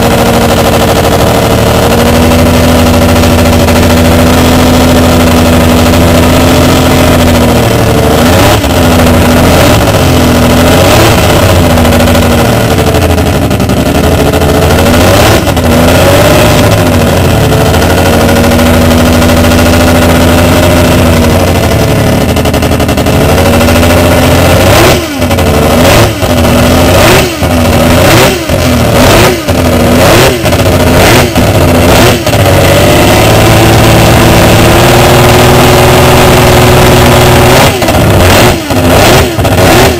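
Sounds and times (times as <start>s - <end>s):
racing engine revving: 0.0s - 39.9s
sharp throttle blips: 0.0s - 39.9s.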